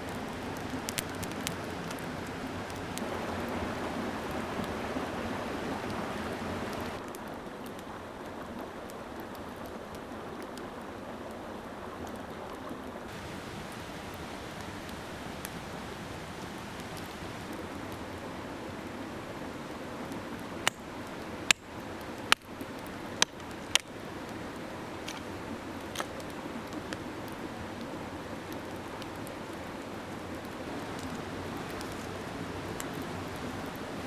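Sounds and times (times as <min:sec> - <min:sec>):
rushing mountain stream: 0:00.0 - 0:34.0.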